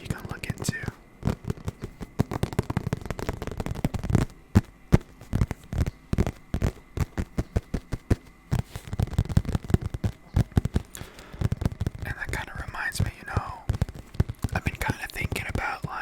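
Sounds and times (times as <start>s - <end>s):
tapping and scratching on object: 0.0s - 16.0s.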